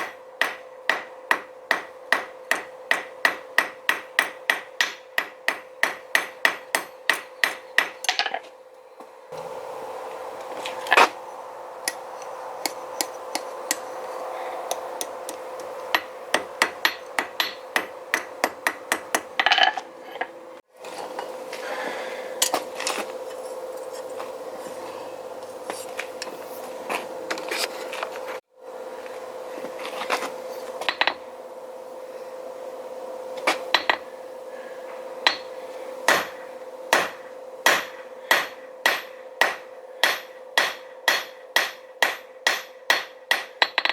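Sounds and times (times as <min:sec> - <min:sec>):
steady hum: 0:00.0 - 0:43.8.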